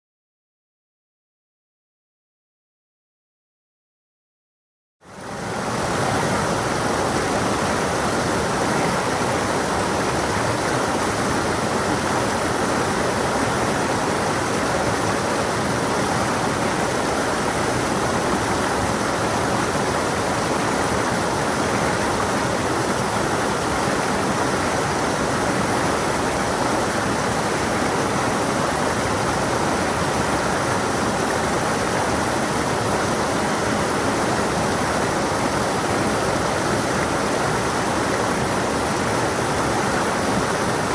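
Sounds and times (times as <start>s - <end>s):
stream running over rocks: 5.2s - 40.9s.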